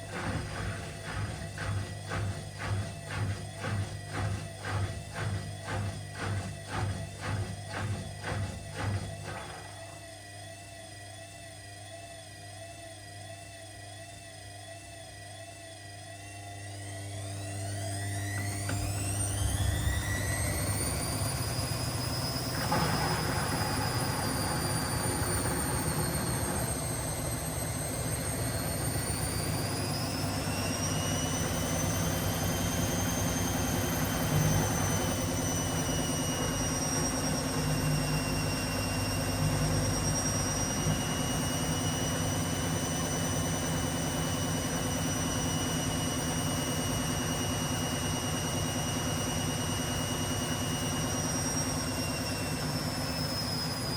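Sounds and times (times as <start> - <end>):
washing machine spinning: 0.0 - 11.5, 14.3 - 53.9.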